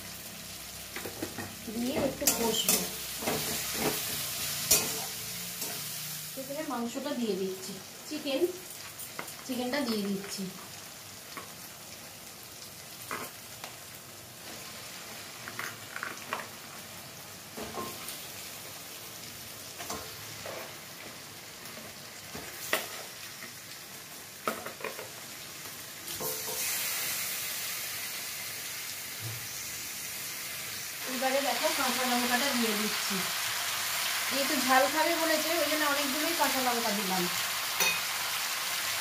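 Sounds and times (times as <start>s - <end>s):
chicken frying with steady sizzle: 0.0s - 39.0s.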